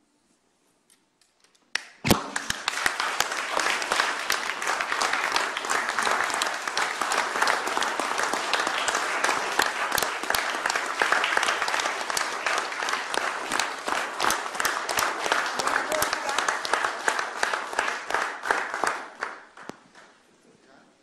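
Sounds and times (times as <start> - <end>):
audience applauding: 2.1 - 20.3.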